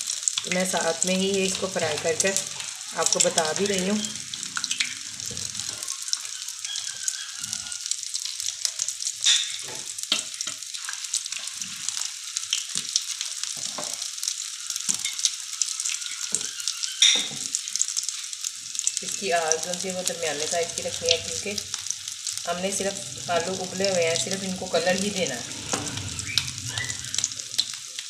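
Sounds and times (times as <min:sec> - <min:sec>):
oil sizzling and crackling: 0:00.0 - 0:28.0.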